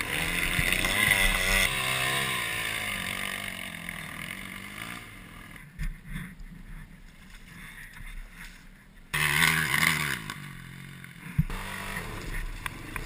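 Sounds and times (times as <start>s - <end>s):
motorcycle engine revving: 0.0s - 6.9s, 9.1s - 13.0s.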